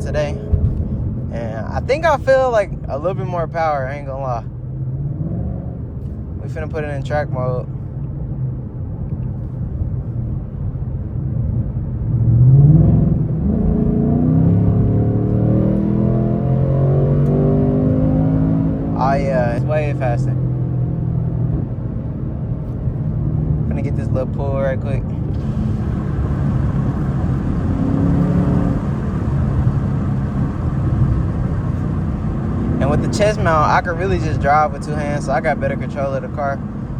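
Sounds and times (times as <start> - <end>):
car engine revving in cabin: 0.0 - 2.5, 4.6 - 7.1, 8.0 - 36.9.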